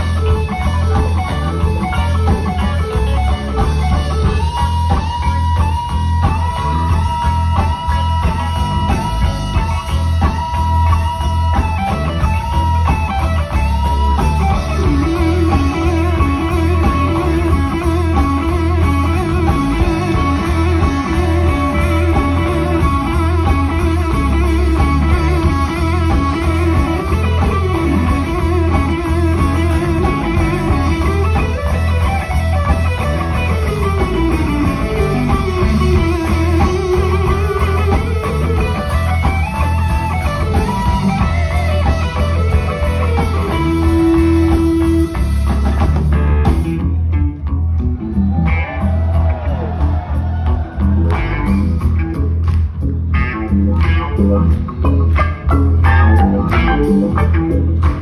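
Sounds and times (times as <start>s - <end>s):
electric blues band: 0.0s - 58.0s
electric guitar lead with bent notes: 0.0s - 58.0s.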